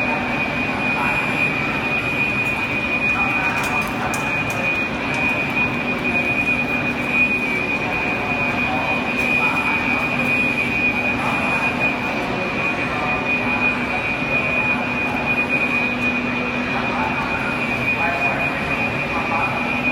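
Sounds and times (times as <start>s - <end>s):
faint voices: 0.0s - 19.9s
fire engines droning: 0.0s - 19.9s.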